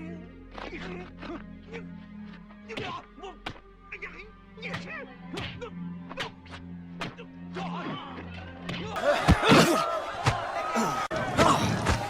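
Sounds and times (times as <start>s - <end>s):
film music score: 0.0s - 12.0s.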